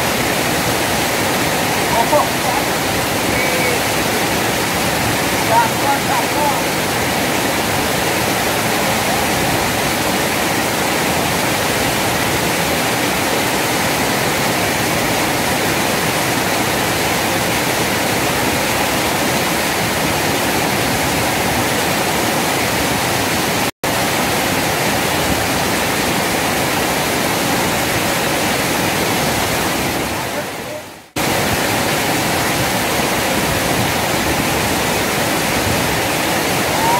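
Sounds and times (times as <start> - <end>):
river water rushing over weir: 0.0 - 36.9.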